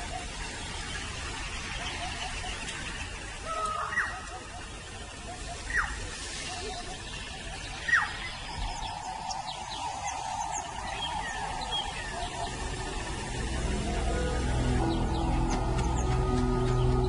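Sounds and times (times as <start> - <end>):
high bird chirps: 0.3 - 17.0.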